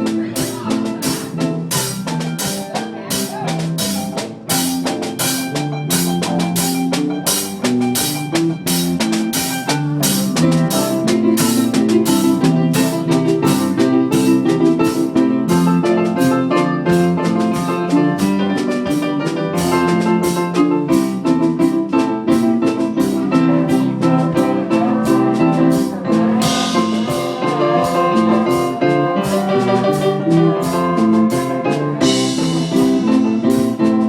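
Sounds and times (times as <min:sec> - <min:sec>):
drum kit beat: 0:00.0 - 0:34.0
instrumental chords: 0:00.0 - 0:34.0.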